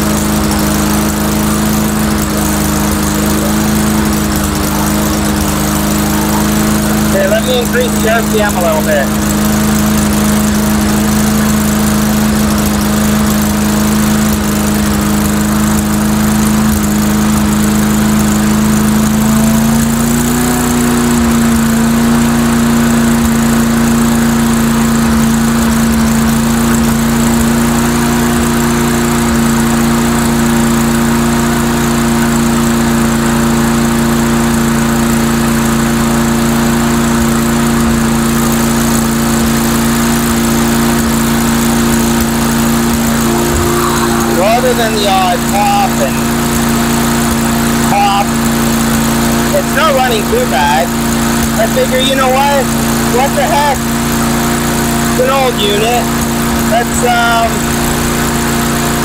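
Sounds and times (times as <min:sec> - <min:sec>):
lawnmower engine running: 0:00.0 - 0:59.0.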